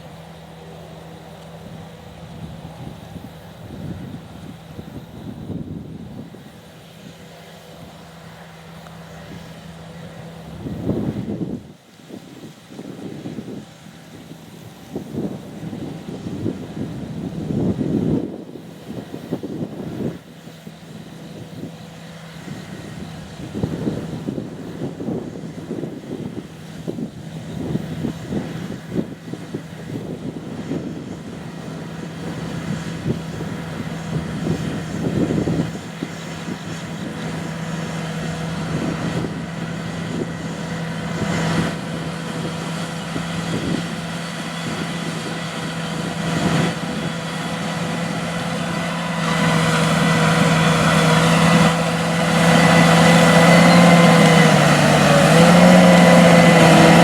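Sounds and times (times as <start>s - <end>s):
tractor diesel engine droning: 0.0s - 11.7s, 13.0s - 57.0s.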